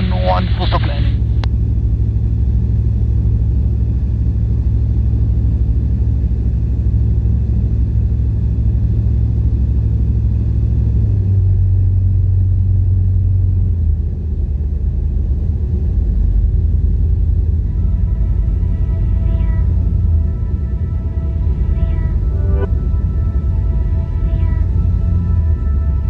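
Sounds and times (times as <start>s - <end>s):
light aircraft engine droning: 0.0s - 26.0s.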